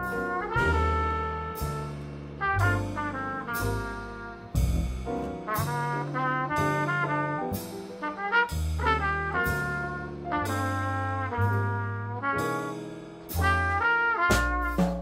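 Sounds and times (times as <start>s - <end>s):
trumpet melody: 0.0s - 4.8s, 5.4s - 15.0s
drum kit with cymbals: 0.0s - 15.0s
grand piano: 0.0s - 15.0s
upright double bass: 0.0s - 15.0s.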